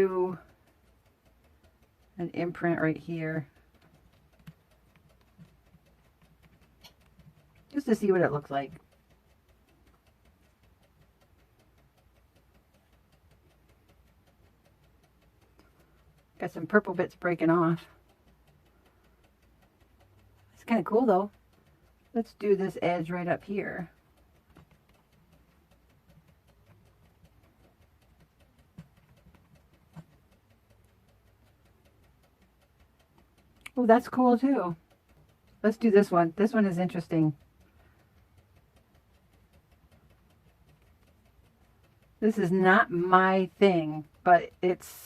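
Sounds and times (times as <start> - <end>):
rapid even ticking: 0.0 - 45.0.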